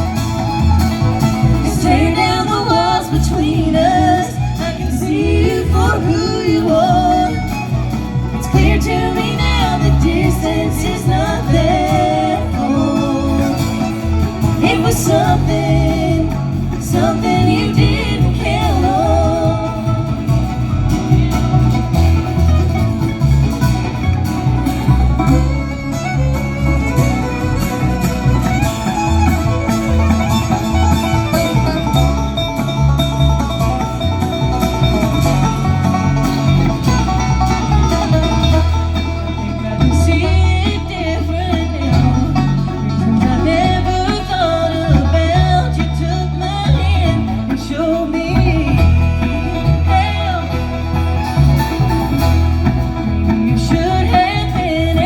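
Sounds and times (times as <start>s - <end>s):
acoustic guitar: 0.0s - 55.0s
banjo: 0.0s - 55.0s
bass line: 0.0s - 55.0s
fiddle: 0.0s - 55.0s.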